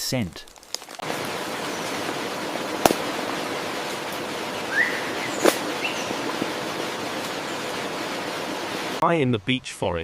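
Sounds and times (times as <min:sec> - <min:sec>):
steady ambient hiss: 0:01.0 - 0:09.8.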